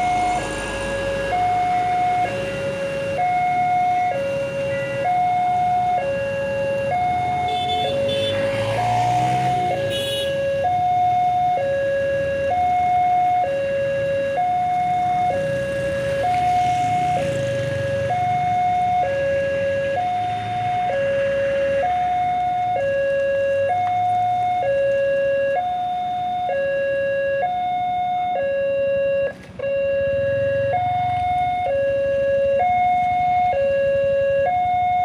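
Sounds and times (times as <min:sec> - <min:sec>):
traffic engine rumble: 0:00.0 - 0:35.0
two-tone crossing alarm: 0:00.0 - 0:35.0.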